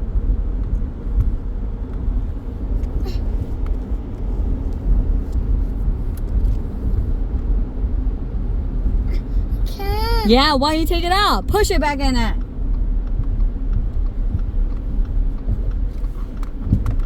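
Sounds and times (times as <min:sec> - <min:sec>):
car interior engine rumble: 0:00.0 - 0:17.0.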